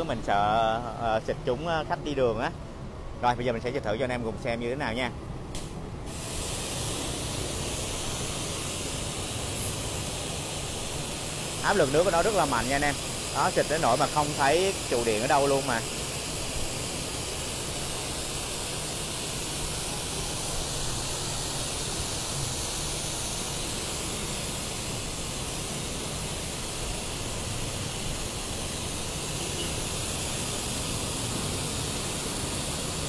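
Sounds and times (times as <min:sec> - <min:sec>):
pressure washer spraying pavement: 0:00.0 - 0:33.0.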